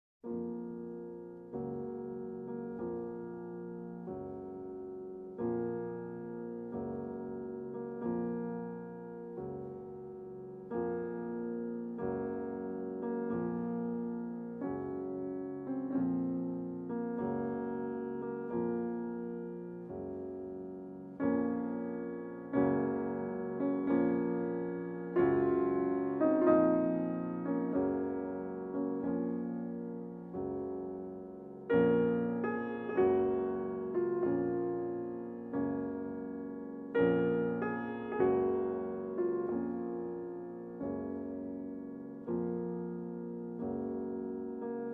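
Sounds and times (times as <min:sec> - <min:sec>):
slow gentle piano music: 0:00.2 - 0:44.9.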